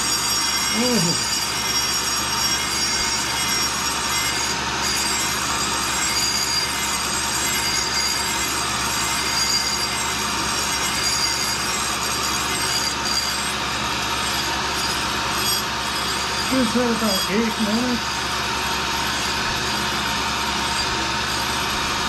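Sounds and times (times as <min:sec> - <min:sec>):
grinding wheel hissing on steel: 0:00.0 - 0:22.0.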